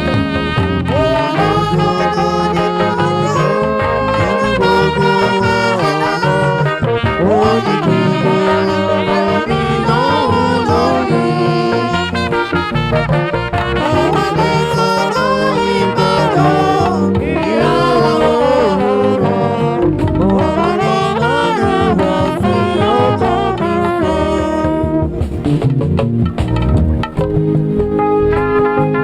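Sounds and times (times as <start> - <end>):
horn playing ornamented melody: 0.0 - 25.6, 26.4 - 29.0
church band music: 0.0 - 29.0.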